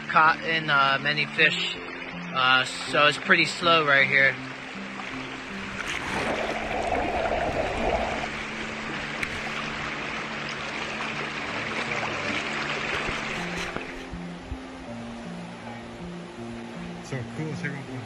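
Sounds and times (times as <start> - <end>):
river water rushing over rocks: 0.0 - 18.0.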